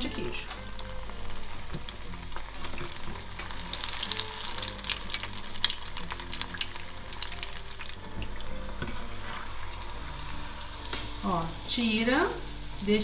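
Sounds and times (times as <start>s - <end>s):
food deep-frying in hot oil: 0.2s - 13.0s.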